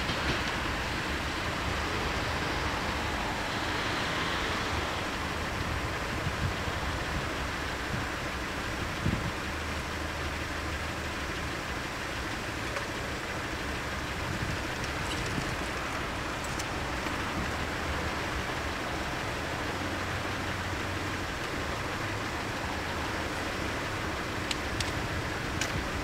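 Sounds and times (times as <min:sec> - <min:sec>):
vehicles rushing past: 0:00.0 - 0:09.3, 0:11.7 - 0:26.0.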